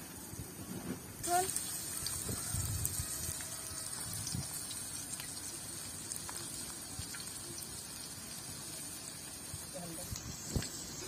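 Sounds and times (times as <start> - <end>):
onion sizzling in hot oil: 1.2 - 11.0.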